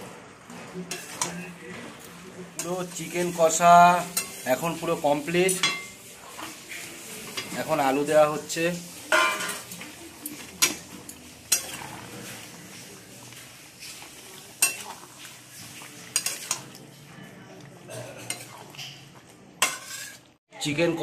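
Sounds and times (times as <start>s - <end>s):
metal spatula scraping a pan: 0.0s - 17.3s, 17.9s - 20.4s.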